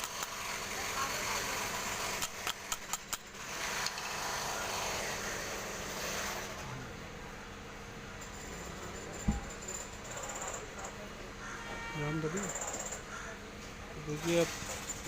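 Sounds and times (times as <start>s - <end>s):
steady noisy background: 0.0s - 15.0s.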